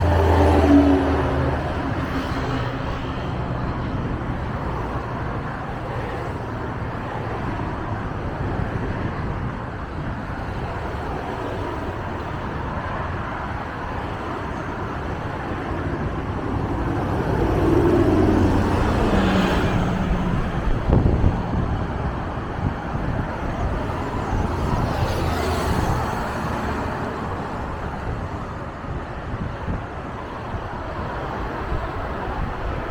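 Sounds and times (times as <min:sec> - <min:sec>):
bus diesel engine rumbling: 0:00.0 - 0:32.9
road noise: 0:00.0 - 0:32.9.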